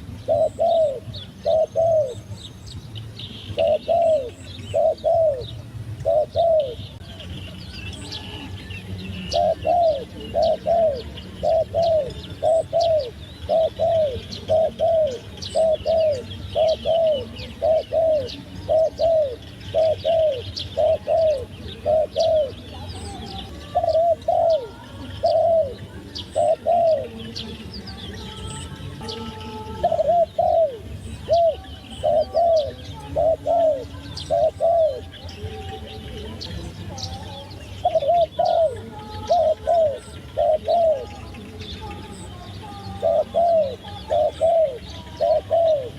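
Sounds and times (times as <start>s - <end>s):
small birds chirping faintly: 0.0s - 45.9s.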